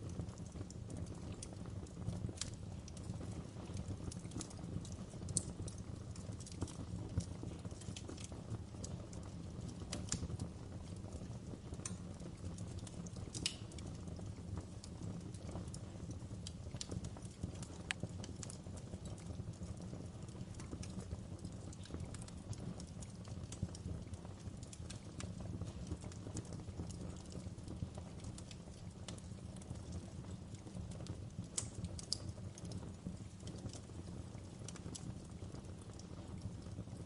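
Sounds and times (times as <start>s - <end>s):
fire crackling and snapping: 0.0s - 37.0s
fire flames rumbling: 0.0s - 37.0s.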